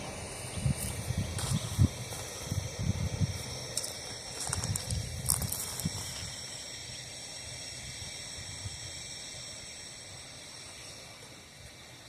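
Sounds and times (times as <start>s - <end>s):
freight train rumble: 0.0s - 12.0s
high-pitched insect chorus: 0.0s - 12.0s.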